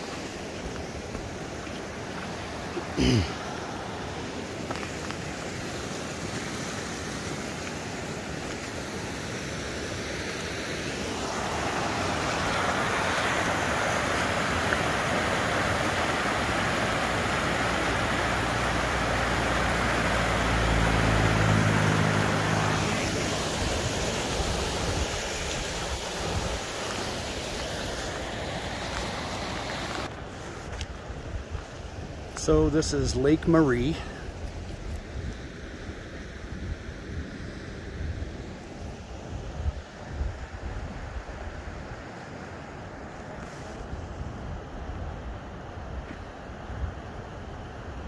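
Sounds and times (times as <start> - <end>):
creek rushing over rocks: 0.0 - 48.0.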